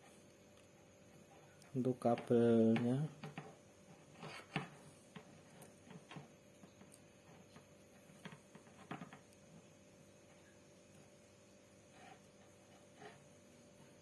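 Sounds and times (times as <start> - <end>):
cable wires clicking and rubbing: 0.6 - 9.7, 11.9 - 14.0.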